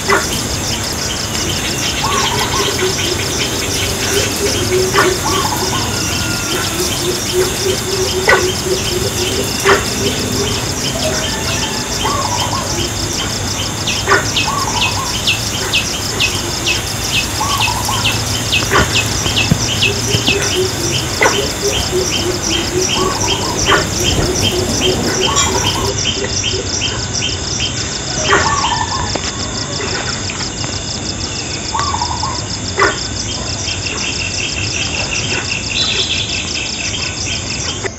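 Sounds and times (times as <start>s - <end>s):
high insect drone: 0.0s - 37.9s
rapid insect chirping: 0.0s - 37.9s.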